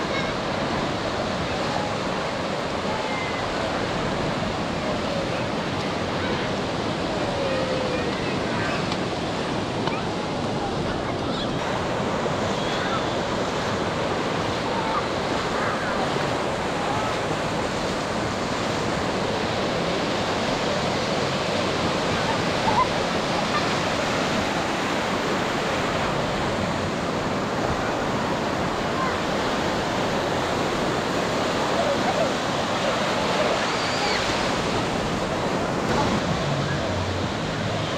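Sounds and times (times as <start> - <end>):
faint crowd voices: 0.0 - 37.9
surf washing up a beach: 0.0 - 37.9.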